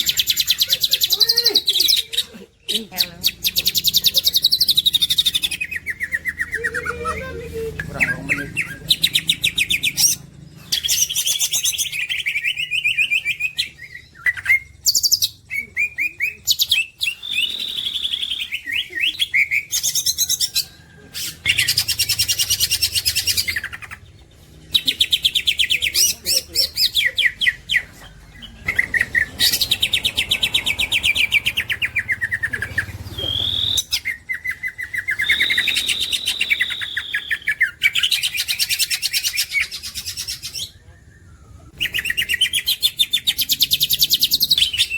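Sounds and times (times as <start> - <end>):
bird singing: 0.0 - 44.9.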